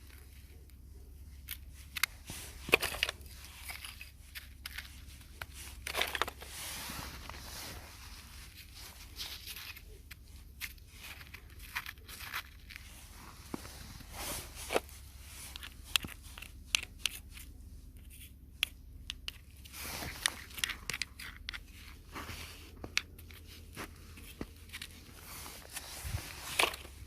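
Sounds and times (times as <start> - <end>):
sharp clicks and crunching: 0.0 - 7.7, 8.4 - 27.0
faint low hum: 0.0 - 27.0.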